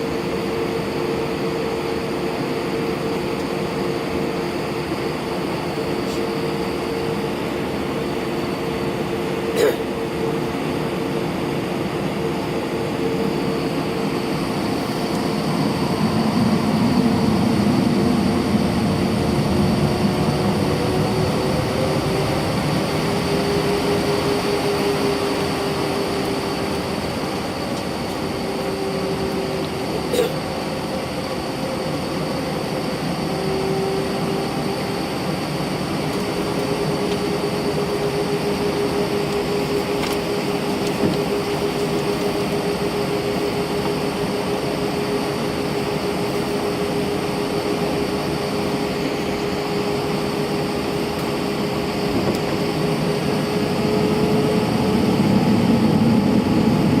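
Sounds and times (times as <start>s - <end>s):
faint high whine: 0.0s - 57.0s
jet engines humming: 0.0s - 57.0s.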